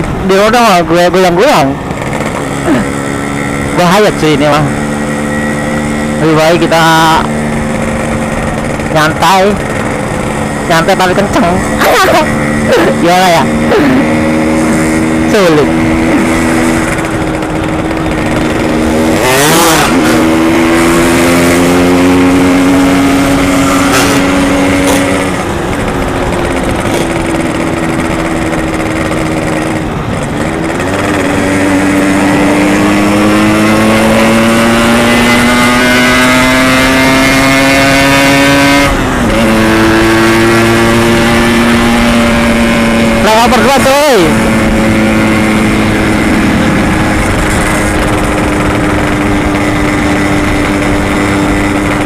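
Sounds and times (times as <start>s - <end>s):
two-stroke motorcycle engine revving: 0.0s - 52.0s.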